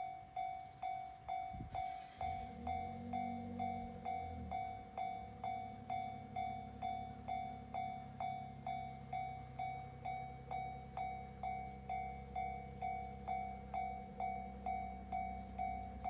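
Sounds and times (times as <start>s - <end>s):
level crossing warning bell: 0.0s - 16.0s
low rumble of a train: 0.0s - 16.0s.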